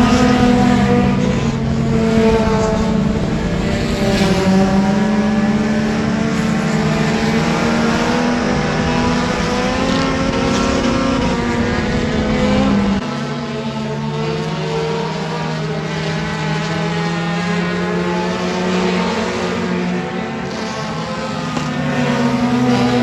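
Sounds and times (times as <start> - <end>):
race car engine under load: 0.0 - 23.0.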